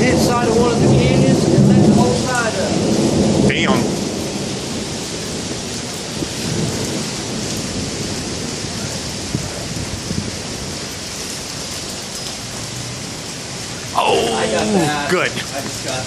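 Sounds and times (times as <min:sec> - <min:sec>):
thunder rumbling: 0:00.0 - 0:15.9
steady rain: 0:00.0 - 0:16.0.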